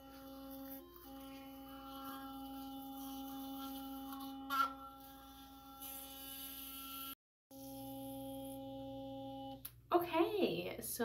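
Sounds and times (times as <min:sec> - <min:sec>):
electric toothbrush buzzing: 0:00.0 - 0:09.7.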